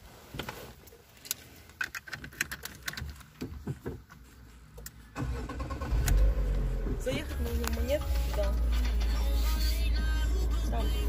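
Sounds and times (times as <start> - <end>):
car engine starting and idling: 2.1 - 11.0.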